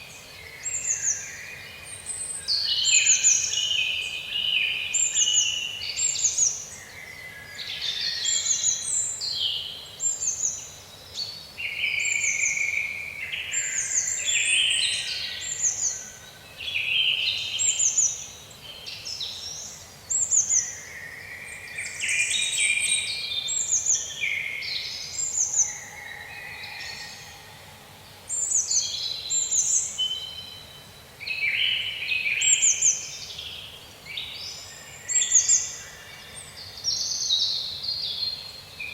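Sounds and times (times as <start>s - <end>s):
faint steady hiss: 0.0s - 38.9s
songbirds chirping and singing: 0.0s - 38.9s.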